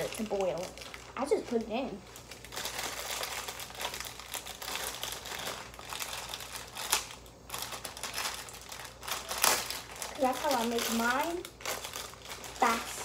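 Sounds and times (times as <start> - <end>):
plastic wrapper crinkling: 0.0 - 13.0
plastic wrapper tearing: 0.0 - 13.0.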